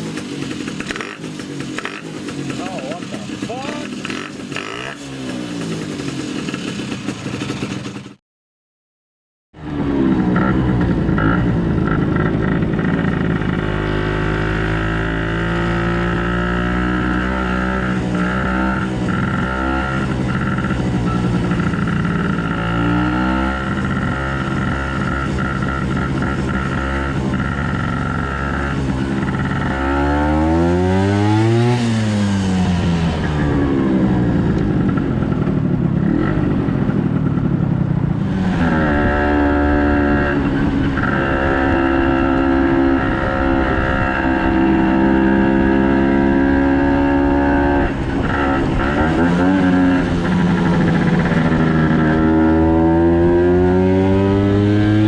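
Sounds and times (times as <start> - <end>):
scooter engine idling and revving: 0.0 - 8.2, 9.6 - 55.0.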